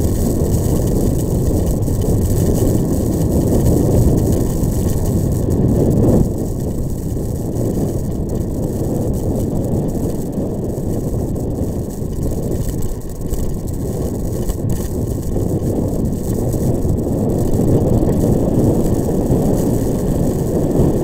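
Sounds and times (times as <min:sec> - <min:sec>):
tyres rumbling on gravel: 0:00.0 - 0:21.0.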